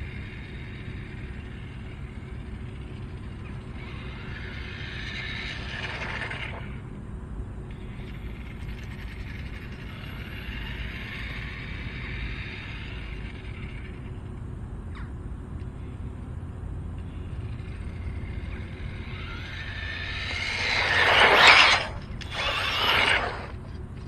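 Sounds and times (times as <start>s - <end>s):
rc car electric motor whining: 0.0s - 6.8s, 7.7s - 14.3s, 17.0s - 23.6s.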